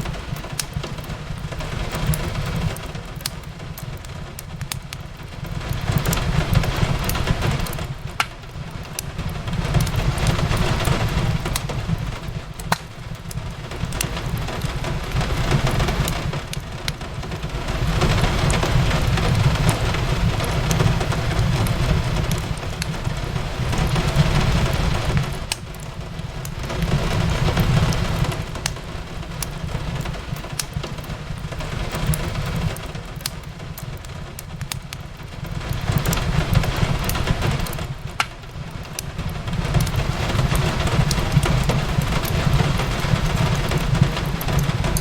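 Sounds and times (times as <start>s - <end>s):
rain on a window: 0.0s - 45.0s
wood fire crackling: 0.0s - 45.0s.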